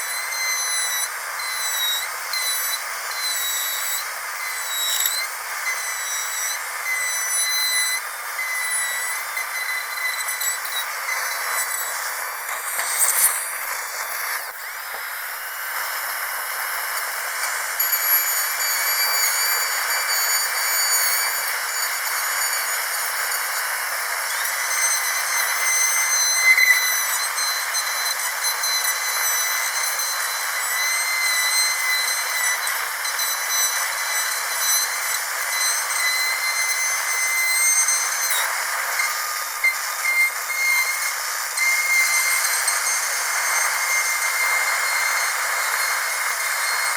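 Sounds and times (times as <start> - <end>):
dentist's drill whining: 0.0 - 46.9.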